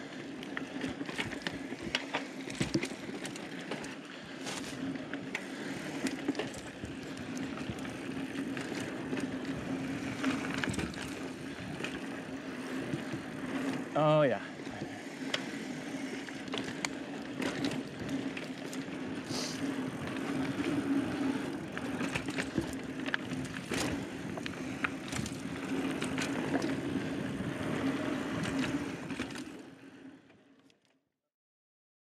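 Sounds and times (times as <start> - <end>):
bike tyres on dirt: 0.0 - 30.4
bike clicks and rattles: 0.0 - 30.9.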